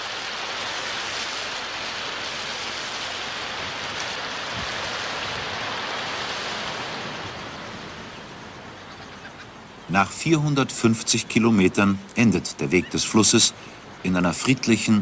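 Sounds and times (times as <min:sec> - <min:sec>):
shallow river water rushing: 0:00.0 - 0:15.0.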